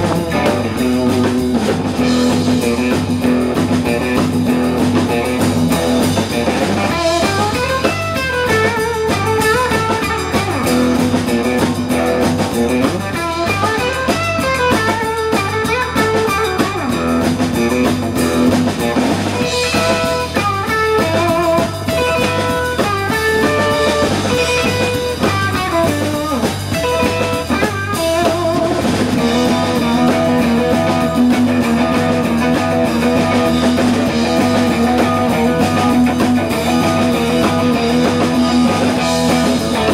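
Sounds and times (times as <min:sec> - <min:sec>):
drum kit steady beat: 0:00.0 - 0:39.9
electric guitar melody: 0:00.0 - 0:39.9.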